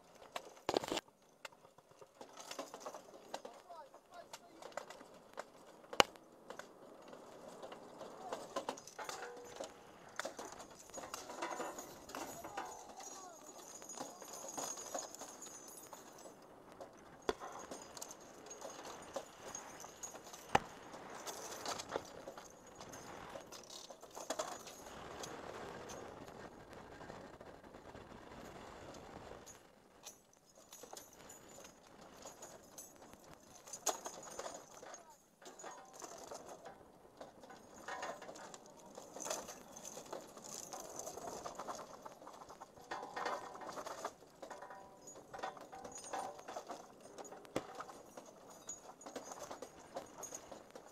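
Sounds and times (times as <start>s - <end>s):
metal cartridges clinking and rattling: 0.1s - 26.2s, 29.4s - 50.9s.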